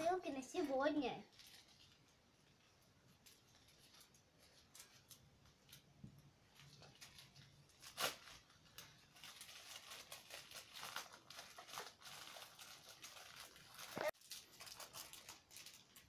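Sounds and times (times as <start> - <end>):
plastic parcel being torn open: 0.2 - 16.0.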